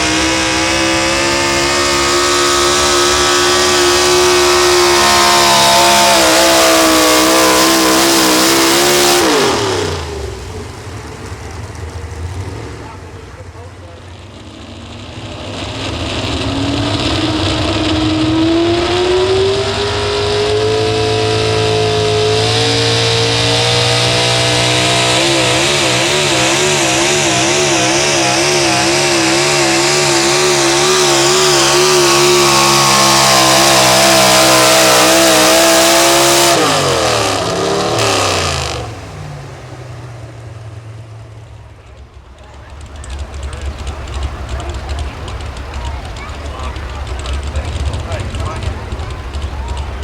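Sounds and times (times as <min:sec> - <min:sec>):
truck engine at full throttle: 0:00.0 - 0:50.0.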